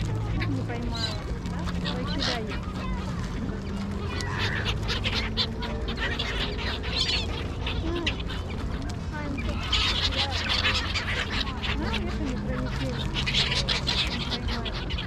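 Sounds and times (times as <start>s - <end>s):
gulls calling: 0.0s - 15.0s
low steady hum: 0.0s - 15.0s.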